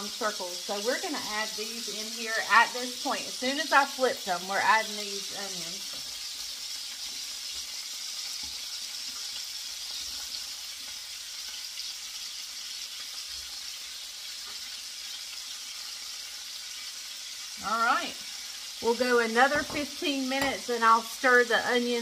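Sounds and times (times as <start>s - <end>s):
chicken sizzling in a skillet: 0.0s - 22.0s.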